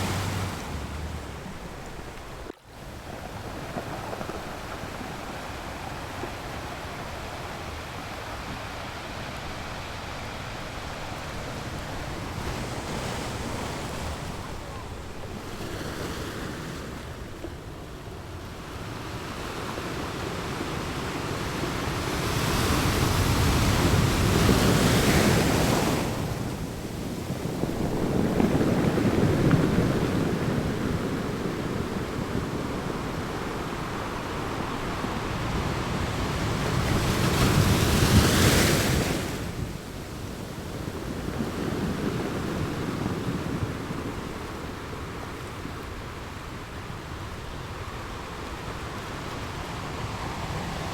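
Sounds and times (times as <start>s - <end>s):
waves breaking on beach: 0.0s - 50.9s.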